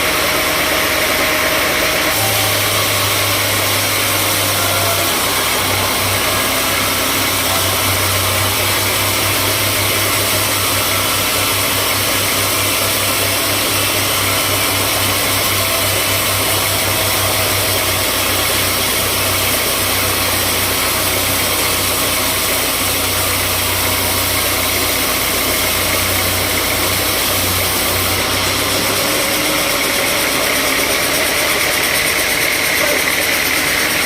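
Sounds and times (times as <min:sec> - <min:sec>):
sawmill machinery running: 0:00.0 - 0:34.0.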